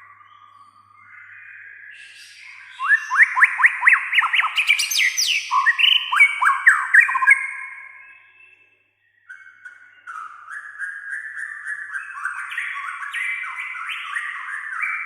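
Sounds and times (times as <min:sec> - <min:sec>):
bird singing whistled phrases: 0:00.0 - 0:15.0.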